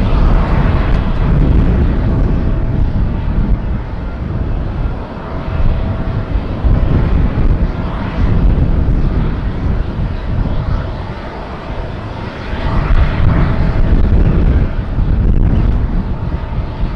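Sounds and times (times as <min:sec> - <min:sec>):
jet engine roar: 0:00.0 - 0:16.9.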